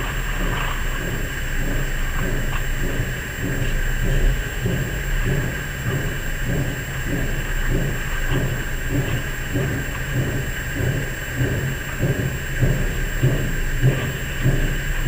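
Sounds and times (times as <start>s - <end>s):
low throbbing drone: 0.0s - 15.0s.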